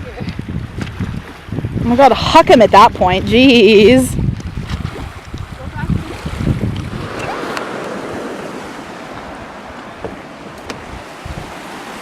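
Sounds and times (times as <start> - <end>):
ocean surf washing on shore: 0.0 - 12.0
wind buffeting microphone: 0.0 - 12.0.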